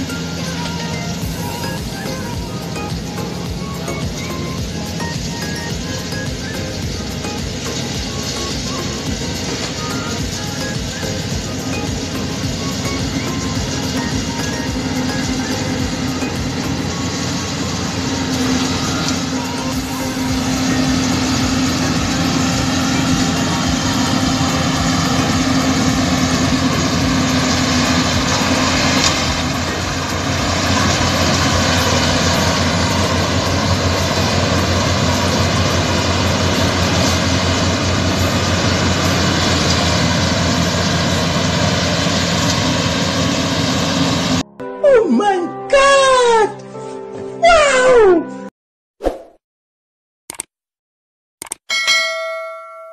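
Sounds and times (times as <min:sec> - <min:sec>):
combine harvester running: 0:00.0 - 0:44.5.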